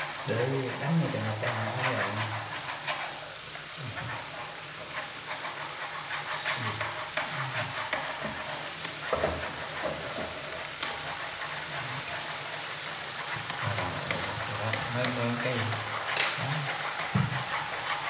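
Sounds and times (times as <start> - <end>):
food sizzling in a frying pan: 0.0 - 18.0
utensil scraping and tapping pan: 0.6 - 18.0.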